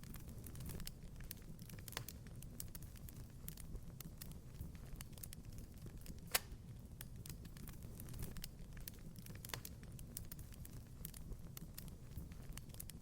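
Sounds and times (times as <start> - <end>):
low fire rumble: 0.0 - 13.0
wood fire crackling: 0.0 - 13.0
sharp pops of burning wood: 0.1 - 13.0.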